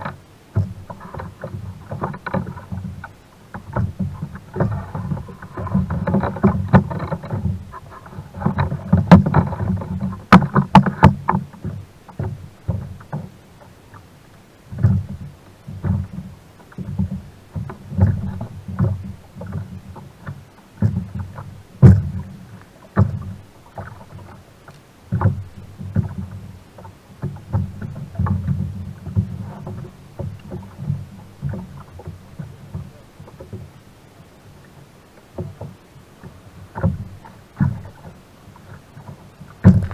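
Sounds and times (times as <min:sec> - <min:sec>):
knocks against hull: 0:00.0 - 0:13.3, 0:14.7 - 0:33.7, 0:35.3 - 0:39.9
water sloshing against kayak hull: 0:00.0 - 0:39.9.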